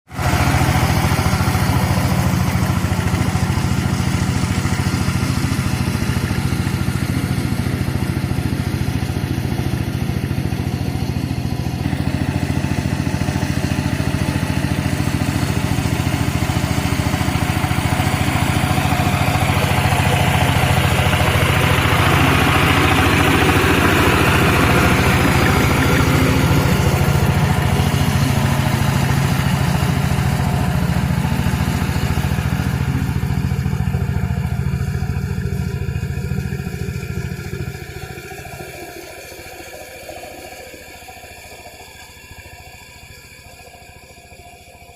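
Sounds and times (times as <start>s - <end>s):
tractor engine running: 0.1s - 44.9s
rough mechanical noise: 0.2s - 44.9s.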